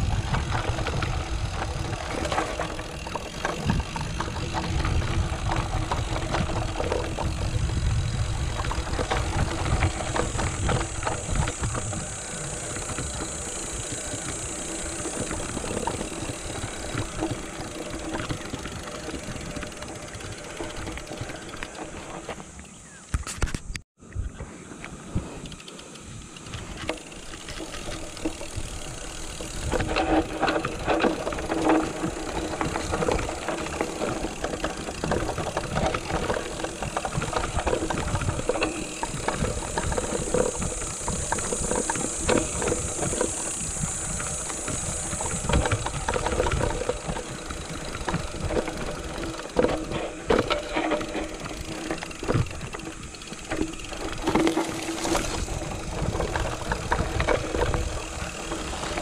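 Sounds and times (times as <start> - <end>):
mountain bike rattling on rocks: 0.0 - 23.7, 25.4 - 59.0.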